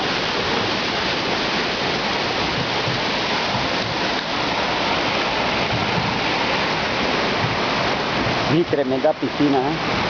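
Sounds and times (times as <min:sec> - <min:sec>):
water splashing into a pool: 0:00.0 - 0:10.0.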